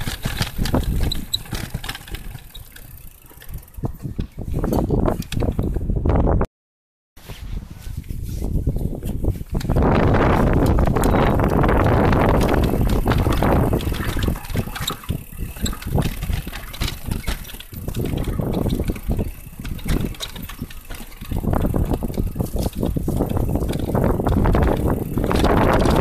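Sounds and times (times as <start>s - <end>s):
bike knocks and rattles: 0.0s - 6.2s, 8.4s - 26.0s
bike tyres rolling on dirt trail: 0.0s - 6.2s, 7.3s - 26.0s
wind buffeting microphone: 0.0s - 6.5s, 7.2s - 26.0s.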